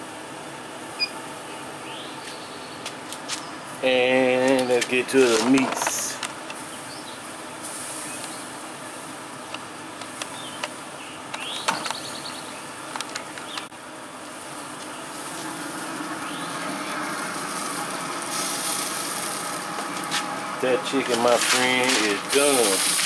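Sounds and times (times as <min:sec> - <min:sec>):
pellet grill humming: 0:00.0 - 0:23.0.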